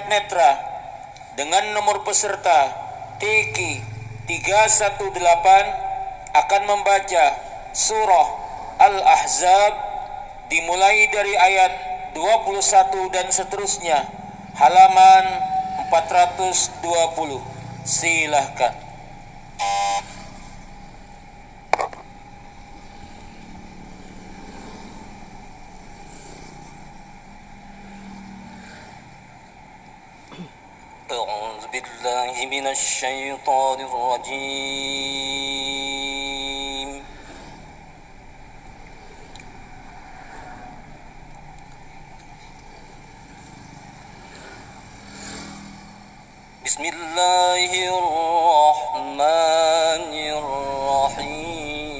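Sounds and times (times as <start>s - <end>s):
public-address system hum: 0.0s - 45.1s, 45.9s - 51.9s.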